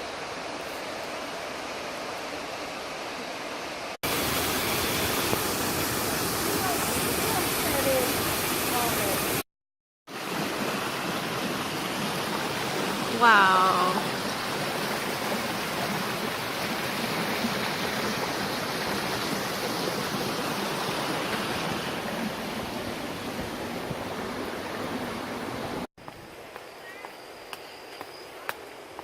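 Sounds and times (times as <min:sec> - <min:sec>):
waterfall rushing water: 0:00.0 - 0:09.4, 0:10.1 - 0:25.9.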